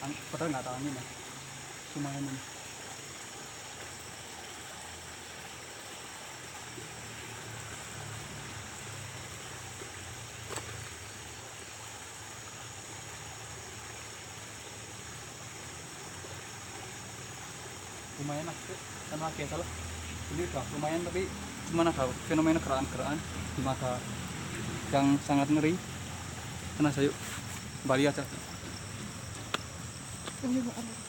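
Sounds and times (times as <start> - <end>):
even hiss: 0.0 - 31.0.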